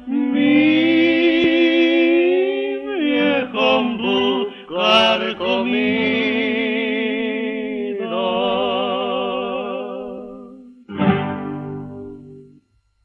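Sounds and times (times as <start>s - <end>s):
male vocal duo singing: 0.0s - 10.8s.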